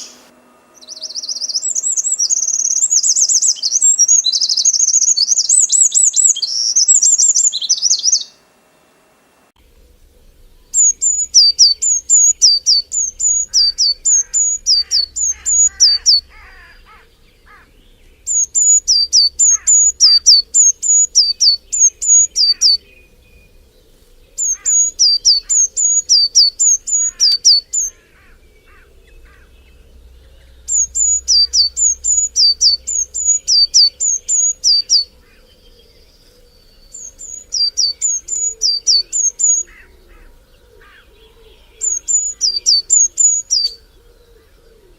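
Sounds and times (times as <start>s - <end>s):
dense high bird chirps: 0.0s - 8.4s, 9.6s - 44.9s
faint lower bird calls: 0.0s - 8.5s, 9.6s - 44.9s
songbird singing: 0.0s - 8.5s, 9.6s - 44.9s.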